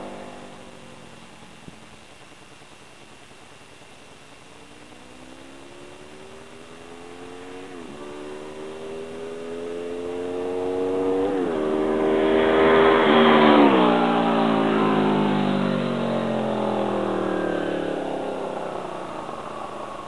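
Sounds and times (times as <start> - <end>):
motorcycle accelerating and shifting gears: 0.0 - 1.9, 4.6 - 20.0.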